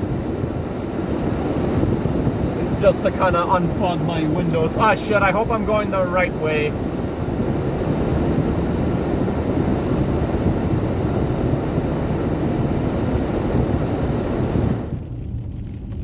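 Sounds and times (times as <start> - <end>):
air-conditioning fan blowing: 0.0 - 16.0
heavy rain on moving car: 0.0 - 16.0.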